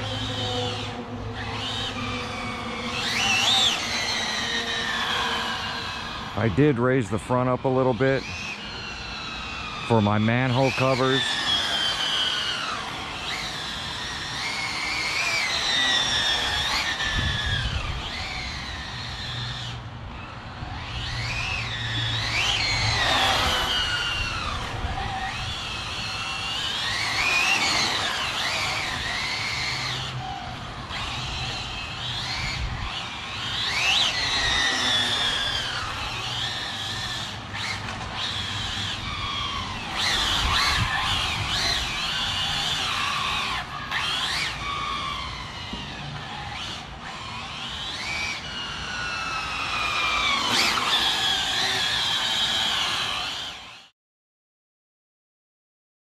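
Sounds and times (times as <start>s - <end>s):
electric motors whining: 0.0s - 53.9s
tires scrubbing on asphalt: 0.0s - 53.9s.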